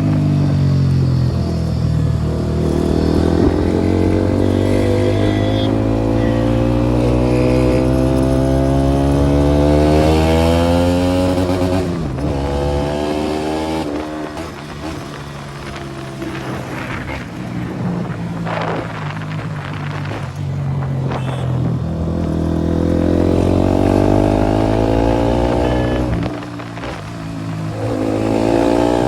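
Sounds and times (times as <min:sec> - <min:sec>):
motorcycle engine pulling: 0:00.0 - 0:29.0.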